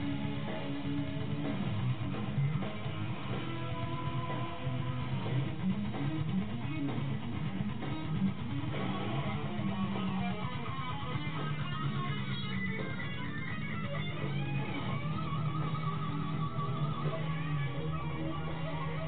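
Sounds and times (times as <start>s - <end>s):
electric guitar music: 0.0s - 19.0s.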